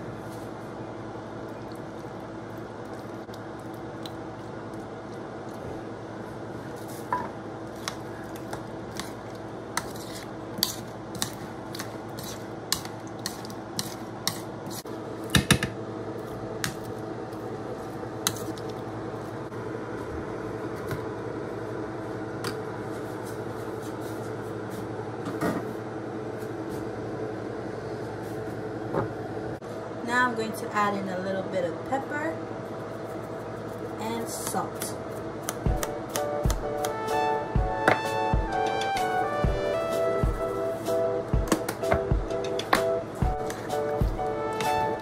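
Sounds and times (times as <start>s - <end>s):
steady hum: 0.0s - 45.0s.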